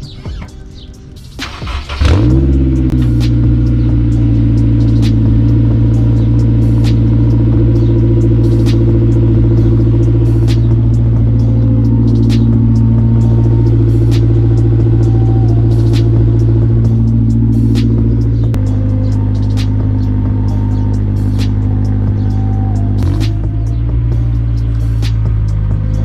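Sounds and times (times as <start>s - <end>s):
car engine idling: 0.0s - 26.0s
exhaust leak ticking: 1.4s - 26.0s.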